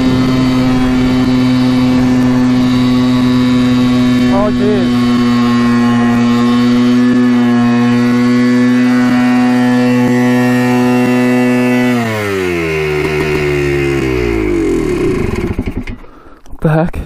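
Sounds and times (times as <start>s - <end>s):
two-stroke engine revving high: 0.0s - 16.2s.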